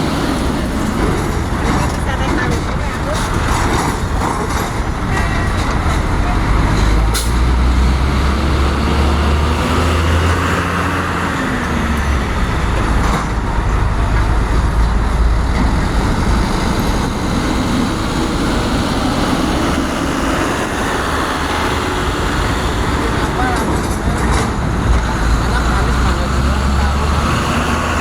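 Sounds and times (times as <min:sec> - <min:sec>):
cargo-handling machinery noise: 0:00.0 - 0:28.0
large engine droning: 0:00.0 - 0:28.0.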